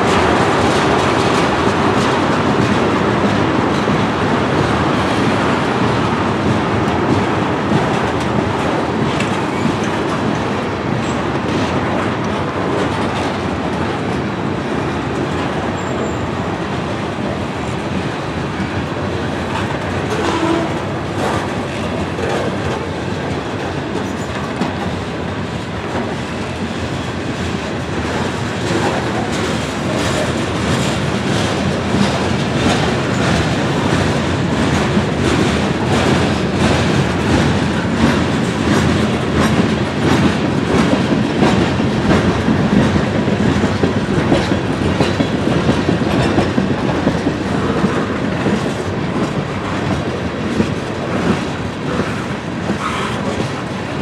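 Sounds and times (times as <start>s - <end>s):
freight train rumbling past: 0.0s - 54.0s
wheels clicking over rail joints: 0.0s - 54.0s.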